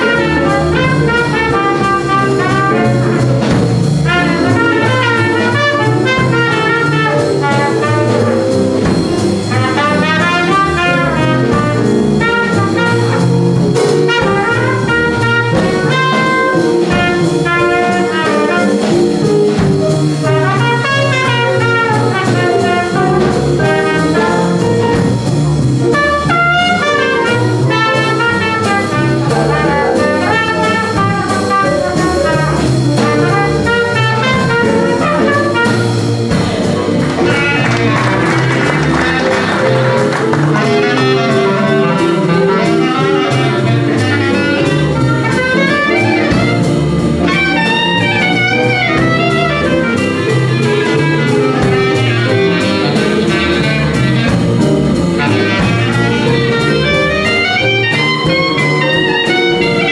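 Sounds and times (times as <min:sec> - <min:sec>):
small jazz band playing: 0:00.0 - 0:59.9
trumpet melody: 0:00.0 - 0:59.9.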